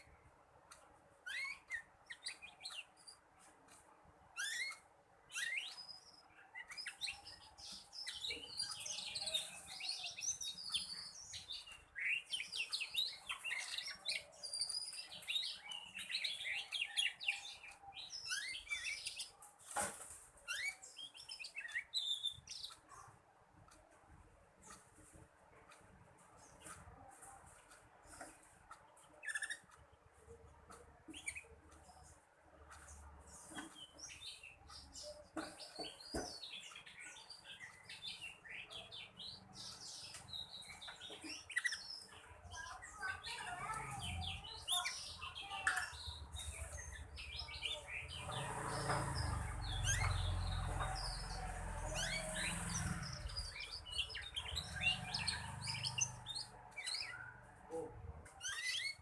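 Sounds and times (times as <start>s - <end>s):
canary twittering: 1.2s - 3.2s, 4.3s - 19.4s, 28.1s - 32.2s, 32.8s - 59.0s.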